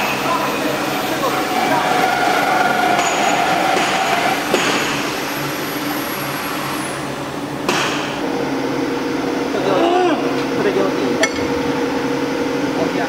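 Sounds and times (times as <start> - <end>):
machine motor drone: 0.0 - 13.0
machine whine: 0.0 - 13.0.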